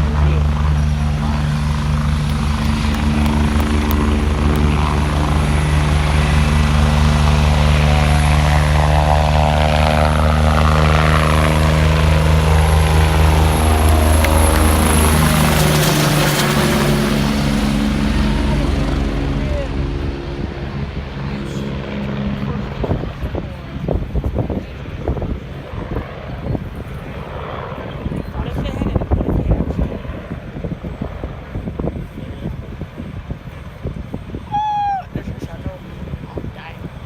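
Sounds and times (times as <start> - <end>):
helicopter passing close by: 0.0 - 37.0.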